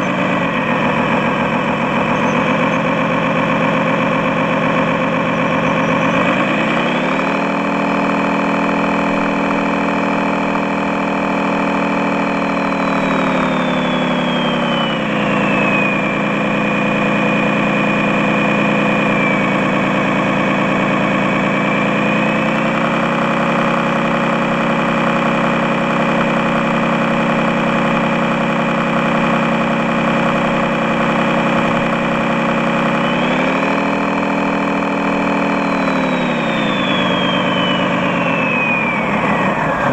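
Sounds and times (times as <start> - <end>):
electronic diesel engine sound: 0.0 - 39.9
high whine: 0.0 - 39.9.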